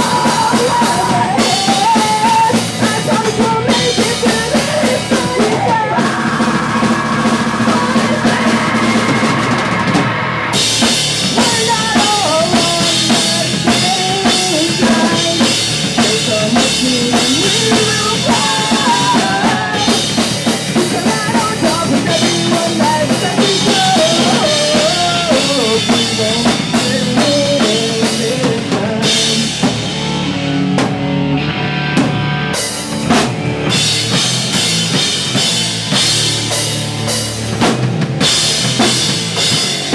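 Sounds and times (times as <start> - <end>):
bass drum and snare: 0.0 - 31.2, 32.0 - 39.9
pop punk band playing live: 0.0 - 39.9.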